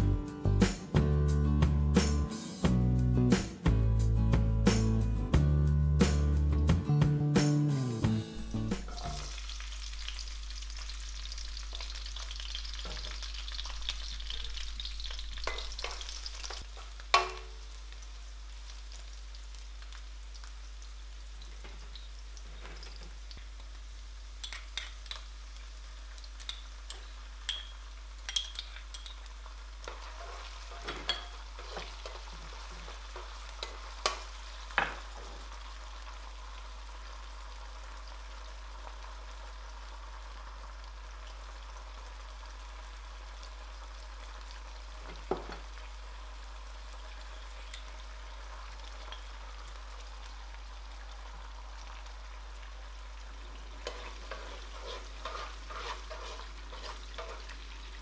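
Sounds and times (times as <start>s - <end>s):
garlic sizzling in oil: 7.8s - 58.0s
hot oil popping and crackling: 8.4s - 58.0s.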